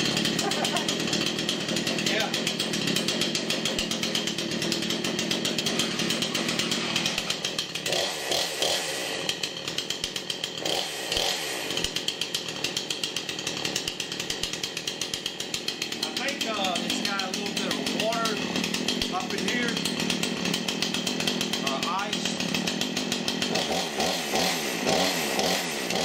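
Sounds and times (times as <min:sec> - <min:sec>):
chainsaw engine running: 0:00.0 - 0:26.0.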